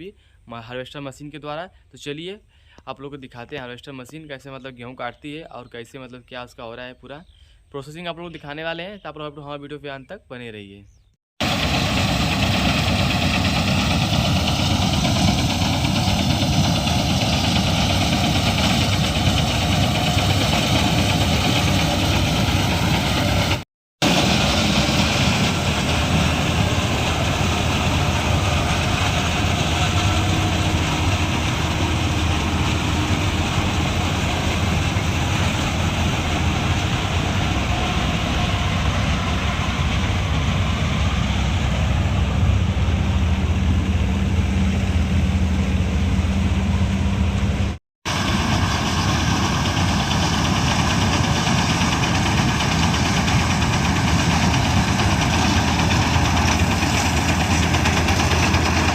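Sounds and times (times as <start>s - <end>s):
combine harvester engine drone: 11.4s - 58.9s.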